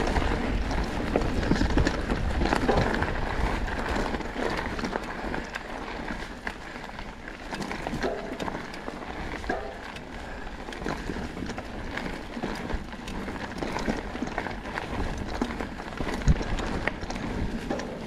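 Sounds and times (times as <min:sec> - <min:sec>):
bike frame and chain rattling: 0:00.0 - 0:18.0
bike tyres rolling over dirt: 0:00.0 - 0:18.0.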